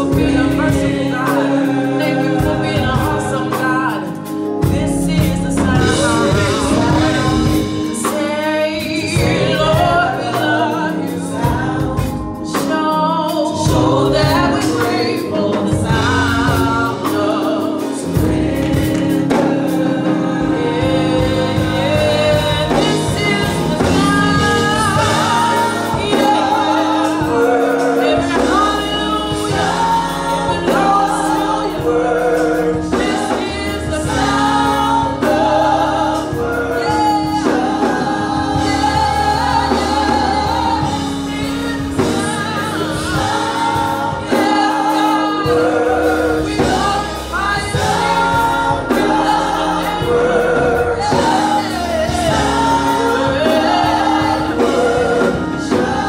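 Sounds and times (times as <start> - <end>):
keyboard accompaniment: 0.0 - 56.0
women singing into microphones: 0.0 - 56.0.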